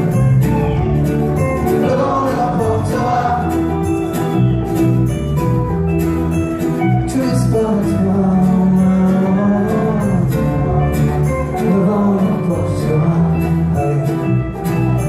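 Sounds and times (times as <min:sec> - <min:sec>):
bass guitar: 0:00.0 - 0:15.0
strummed guitars: 0:00.0 - 0:15.0.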